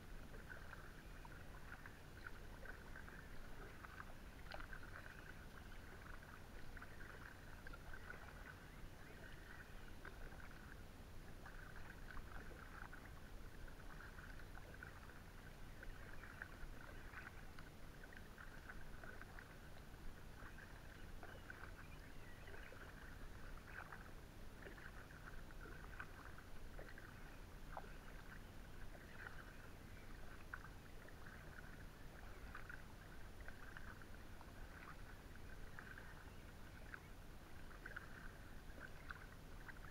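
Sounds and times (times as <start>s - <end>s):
paddle dipping into water: 0.1s - 39.9s
small splashes and drips: 0.2s - 39.9s.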